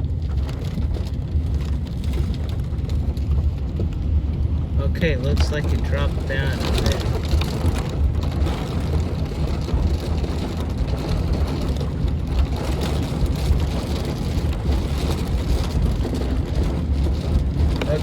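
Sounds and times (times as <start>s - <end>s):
heavy rain: 0.0s - 18.0s
low thunder rumble: 0.0s - 18.0s.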